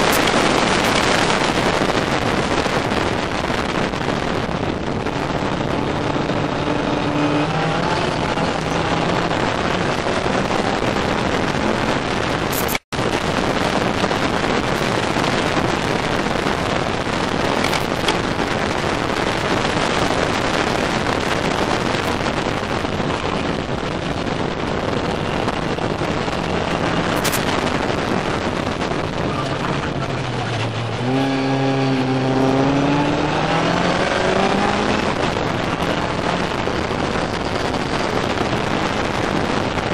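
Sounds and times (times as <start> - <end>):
loud wind rush: 0.0 - 39.9
race car engine running hard: 0.0 - 39.9.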